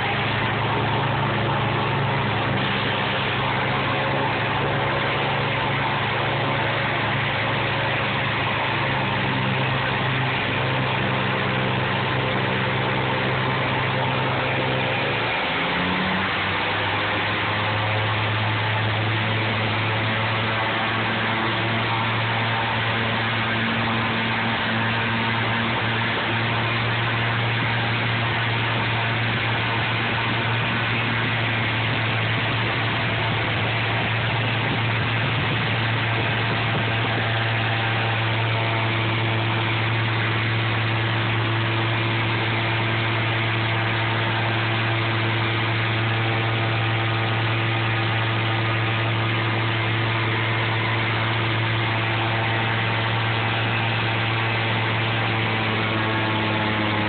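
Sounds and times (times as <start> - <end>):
aircraft engine running: 0.0 - 57.0
rush of air and water: 0.0 - 57.0.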